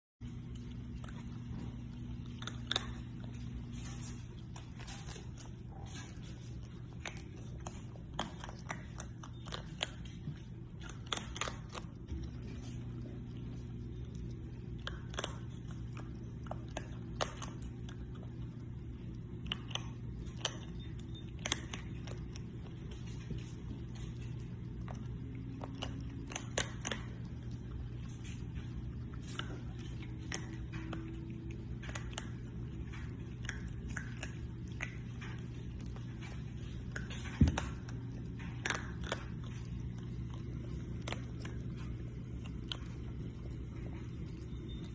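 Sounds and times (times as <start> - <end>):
raccoon chewing crunchily: 0.2 - 44.9
steady low hum: 0.2 - 44.9.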